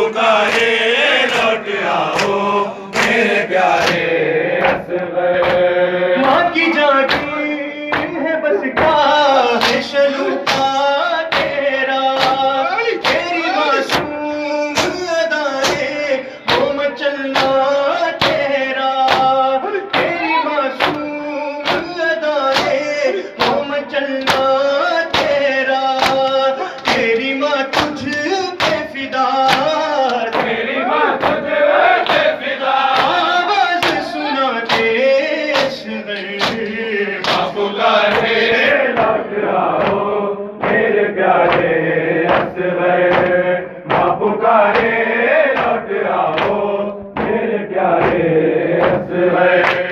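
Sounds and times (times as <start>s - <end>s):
men chanting into a microphone: 0.0s - 49.9s
chest-beating slaps: 2.1s - 6.4s, 7.0s - 8.2s, 9.6s - 9.9s, 10.5s - 14.2s, 14.8s - 15.0s, 17.4s - 17.6s, 18.2s - 21.9s, 22.5s - 22.8s, 23.4s - 49.9s.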